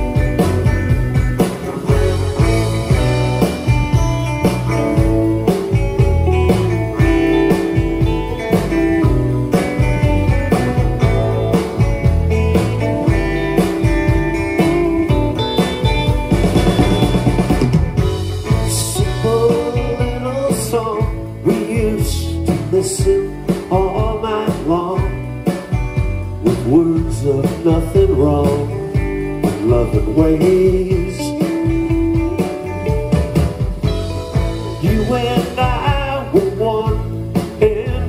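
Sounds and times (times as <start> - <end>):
drum kit: 0.0 - 38.0
electric guitar: 0.0 - 38.0
upright bass: 0.0 - 38.0.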